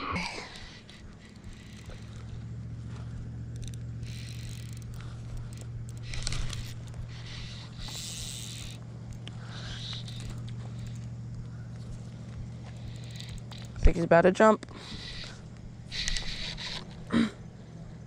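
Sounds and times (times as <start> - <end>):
fishing line and reel rustling: 0.0 - 14.1, 14.7 - 17.1
steady low hum: 0.0 - 18.0.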